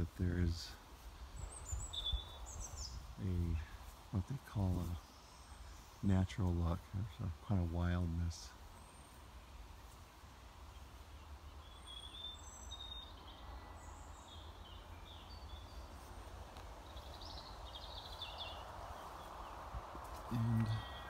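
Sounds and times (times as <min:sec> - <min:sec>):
small birds chirping and singing: 0:00.0 - 0:21.0.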